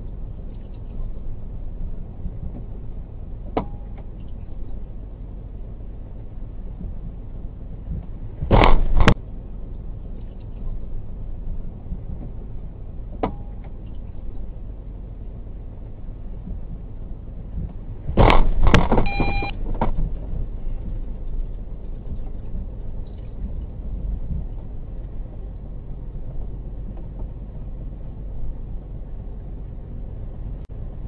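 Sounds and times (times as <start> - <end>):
truck low rumble: 0.0 - 31.0.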